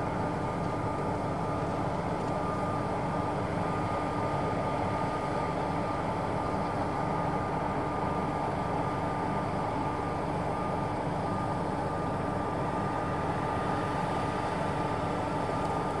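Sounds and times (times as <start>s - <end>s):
combine harvester engine: 0.0s - 16.0s.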